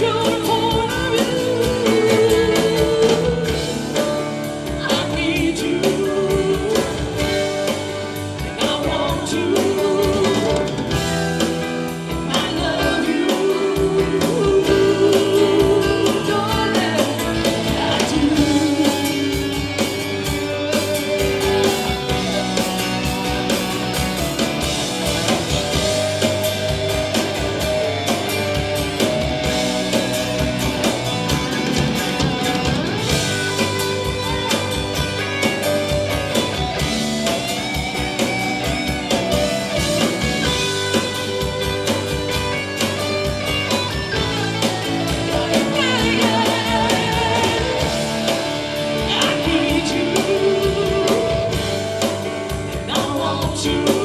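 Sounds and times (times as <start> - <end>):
lead singer's voice: 0.0 - 23.5, 25.5 - 54.0
drum kit beat: 0.0 - 54.0
live country band playing: 0.0 - 54.0.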